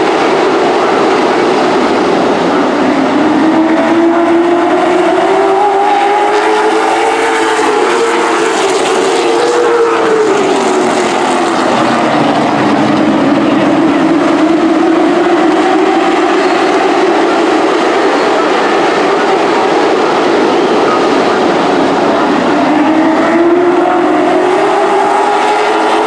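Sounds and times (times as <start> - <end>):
racing truck engines: 0.0 - 26.0.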